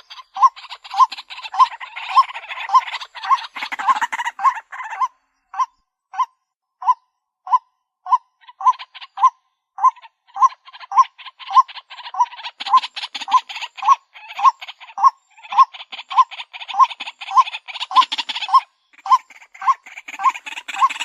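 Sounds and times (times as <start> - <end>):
bird calling repeated notes: 0.0 - 21.0.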